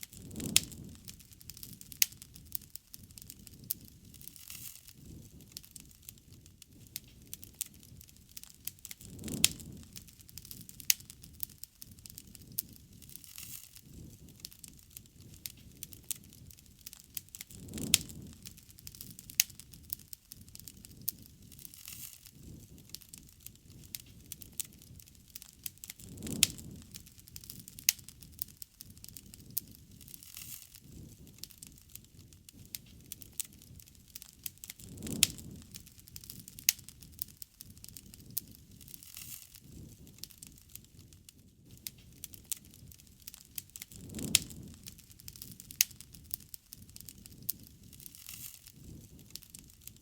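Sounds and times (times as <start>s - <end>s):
campfire crackling and popping: 0.0s - 50.0s.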